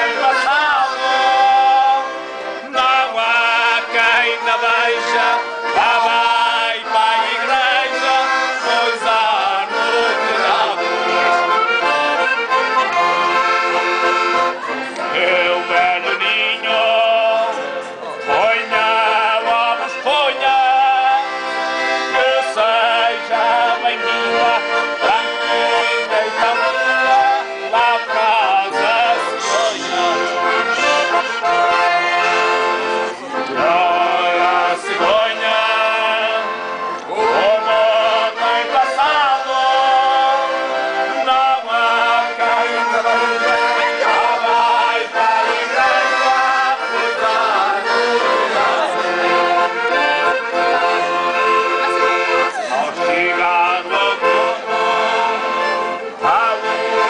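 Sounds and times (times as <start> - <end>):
man singing: 0.0 - 11.6, 15.0 - 21.4, 22.0 - 32.5, 33.5 - 49.6, 52.5 - 57.0
button accordions playing: 0.0 - 57.0.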